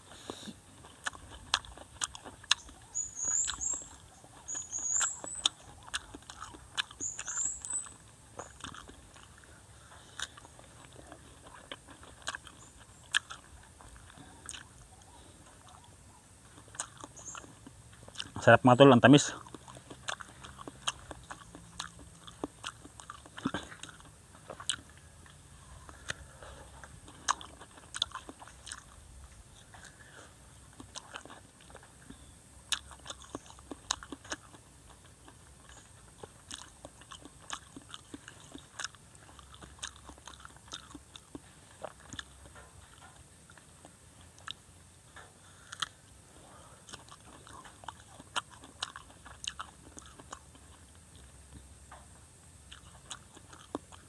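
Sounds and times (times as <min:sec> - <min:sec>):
chewing crisp fruit: 0:00.0 - 0:54.0.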